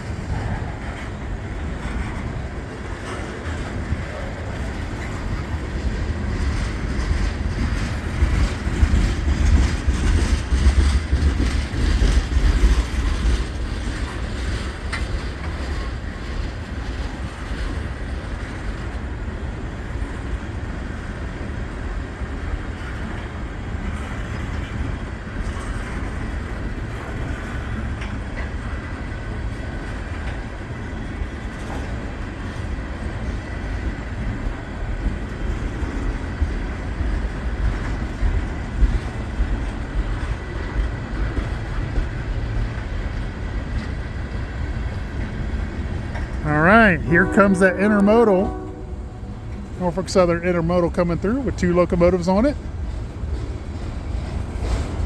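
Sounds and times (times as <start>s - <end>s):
wheels clicking over rails: 0.0s - 46.5s
freight train rumbling past: 0.0s - 55.0s.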